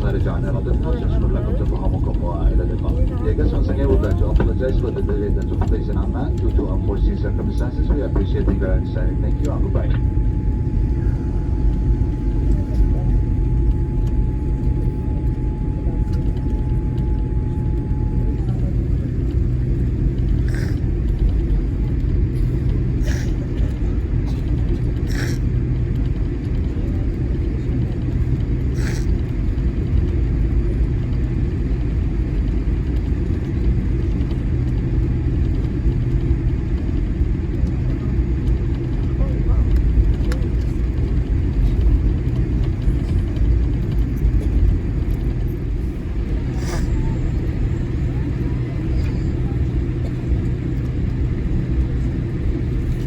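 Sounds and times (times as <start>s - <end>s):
aircraft cabin rumble taxiing: 0.0s - 53.0s.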